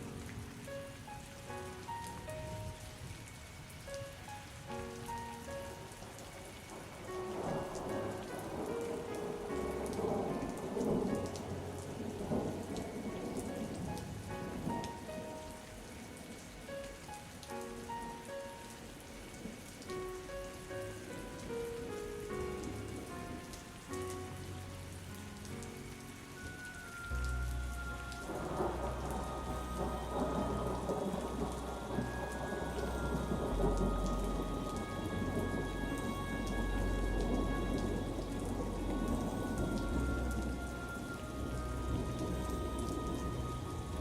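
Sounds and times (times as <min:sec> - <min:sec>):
rolling thunder rumble: 0:00.0 - 0:16.7, 0:20.3 - 0:44.0
steady rain falling: 0:00.0 - 0:44.0.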